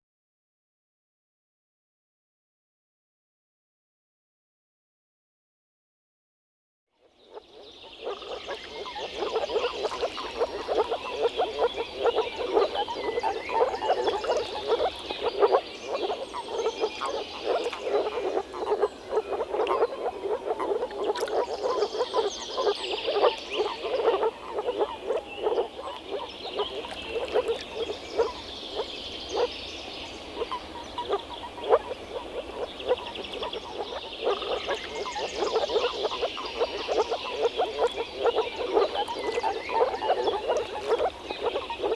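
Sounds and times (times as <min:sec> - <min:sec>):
frogs calling in chorus: 0:07.3 - 0:41.9.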